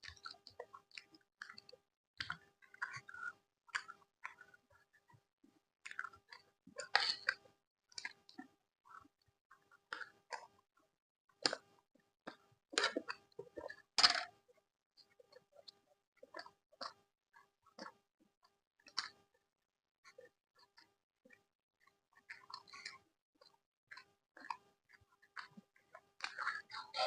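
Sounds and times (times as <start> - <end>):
close-miked chewing of food: 0.0 - 10.8, 11.4 - 19.5, 20.1 - 27.0.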